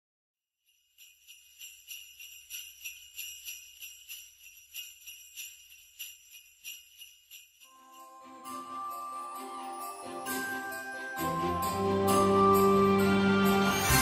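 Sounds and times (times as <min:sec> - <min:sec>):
jingle bells shaken: 0:00.7 - 0:14.0
music: 0:01.0 - 0:14.0.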